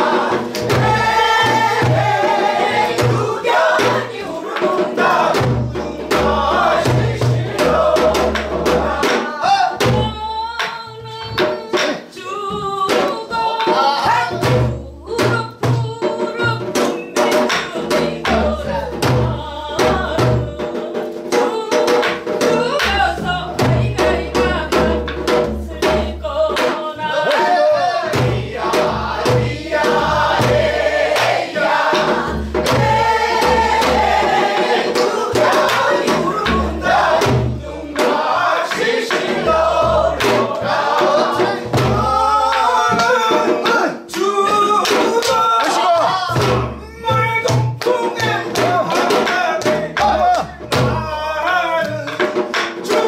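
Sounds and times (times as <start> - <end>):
mixed chorus singing folk song: 0.0 - 10.3, 11.7 - 14.9, 16.0 - 53.0
barrel drum beat: 0.0 - 53.0
hourglass drum beat: 0.0 - 53.0.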